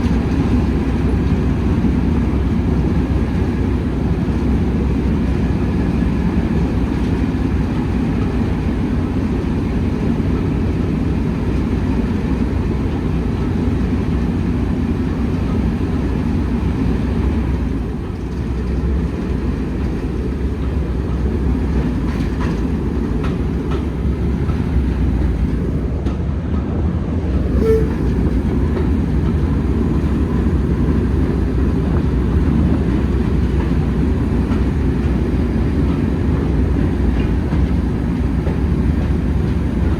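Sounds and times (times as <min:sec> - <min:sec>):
train rumbling: 0:00.0 - 0:39.9
wheels clicking on track: 0:00.0 - 0:39.9.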